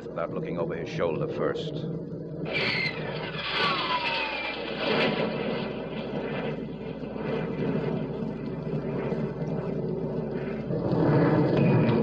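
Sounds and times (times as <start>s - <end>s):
jet engine rush in flight: 0.0s - 12.0s.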